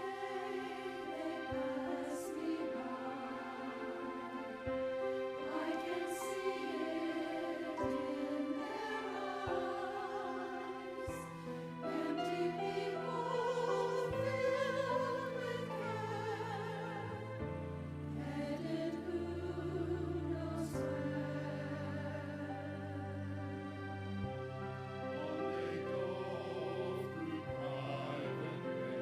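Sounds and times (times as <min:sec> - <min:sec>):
church choir singing: 0:00.0 - 0:29.0.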